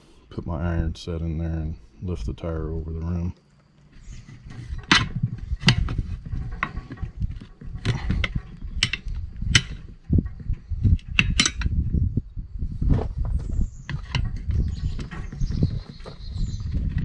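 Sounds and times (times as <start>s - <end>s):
tire irons clanking and scraping: 0.0s - 12.1s, 12.7s - 17.0s
low handling rumble: 0.0s - 17.0s.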